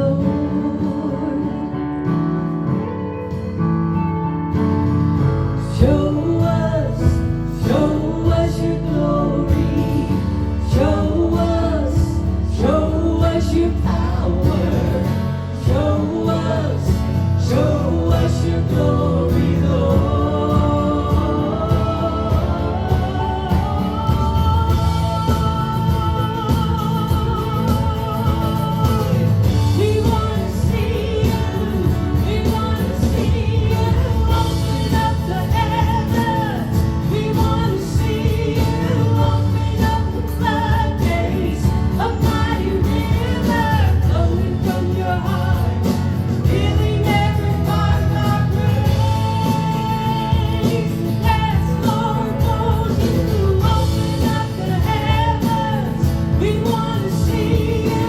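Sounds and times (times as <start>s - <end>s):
people singing: 0.0s - 2.8s, 5.5s - 58.0s
worship band playing: 0.0s - 58.0s.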